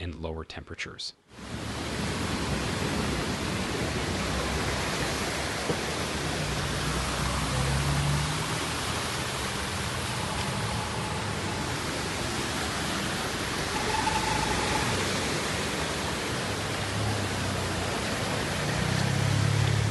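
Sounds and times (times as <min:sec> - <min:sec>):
rushing water: 0:01.3 - 0:19.9.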